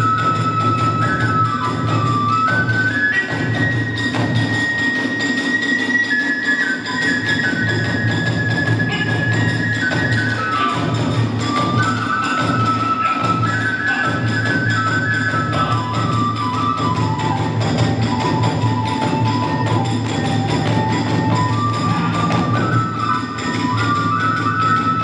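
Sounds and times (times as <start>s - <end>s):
bamboo flute melody: 0.0s - 25.0s
rapid drumming: 0.0s - 25.0s.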